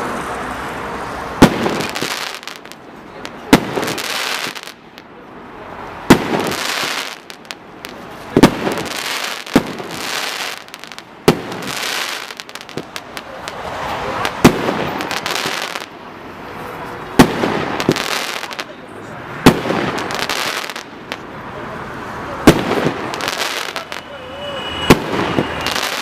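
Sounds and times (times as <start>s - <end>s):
firework crackling: 0.0s - 26.0s
firework bangs: 1.2s - 21.4s, 22.3s - 26.0s.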